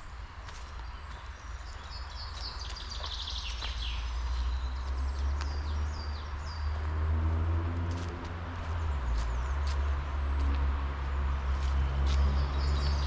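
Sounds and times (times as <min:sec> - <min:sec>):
birds singing: 0:00.0 - 0:07.2, 0:08.6 - 0:13.0.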